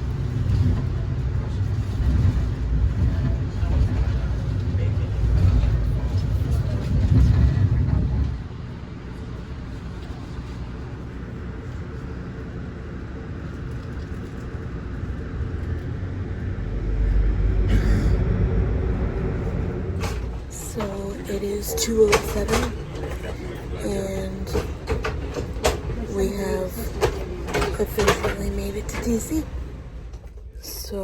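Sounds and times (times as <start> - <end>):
train clatter: 0.0 - 31.0
train running inside coach: 0.0 - 31.0.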